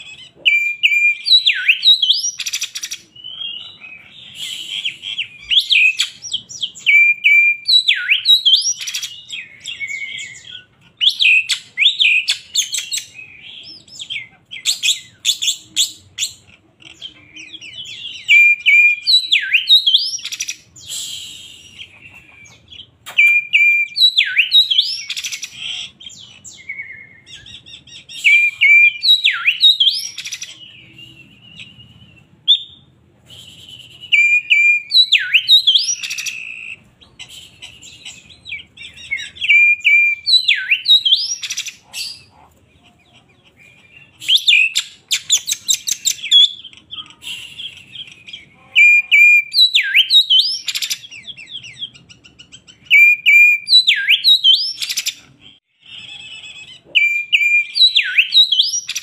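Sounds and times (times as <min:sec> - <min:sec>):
bird singing whistled phrases: 0:00.0 - 0:16.4, 0:17.0 - 0:42.2, 0:43.6 - 0:55.3, 0:56.0 - 0:59.0.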